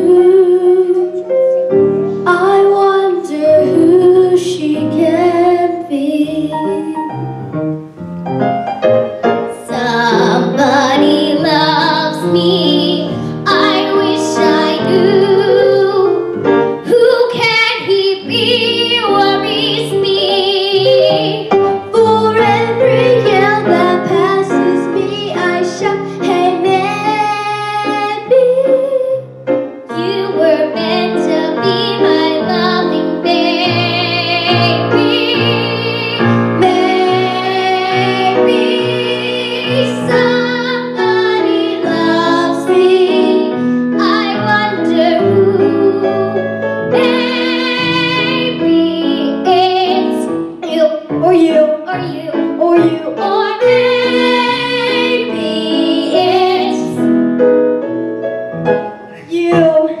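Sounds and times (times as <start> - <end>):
girl and boy singing duet: 0.0 - 1.4, 2.2 - 7.3, 9.5 - 29.3, 29.9 - 57.0, 59.0 - 60.0
piano accompaniment: 0.0 - 60.0.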